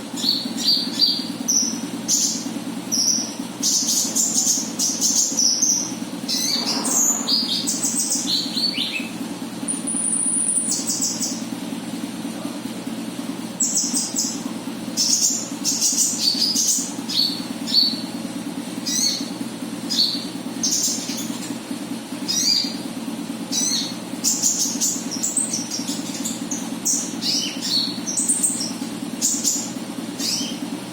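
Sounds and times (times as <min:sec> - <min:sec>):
steady low hum: 0:00.0 - 0:30.9
bird chirping calls: 0:00.1 - 0:11.4, 0:13.6 - 0:18.2, 0:18.8 - 0:21.6, 0:22.2 - 0:22.8, 0:23.5 - 0:30.7.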